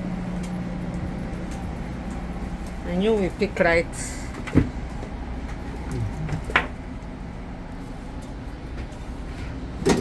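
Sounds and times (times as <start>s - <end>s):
low hum inside train coach: 0.0s - 10.0s.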